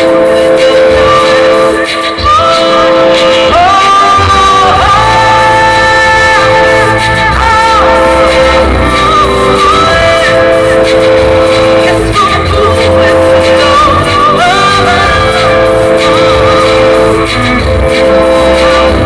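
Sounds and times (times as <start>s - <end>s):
person singing long notes: 0.0s - 19.0s
rock band playing live: 0.0s - 19.0s.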